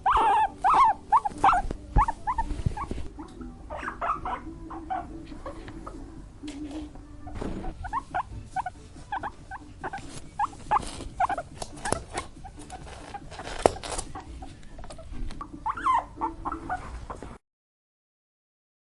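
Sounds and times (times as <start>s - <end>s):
guinea pig squeaking: 0.0s - 6.0s, 7.1s - 17.4s.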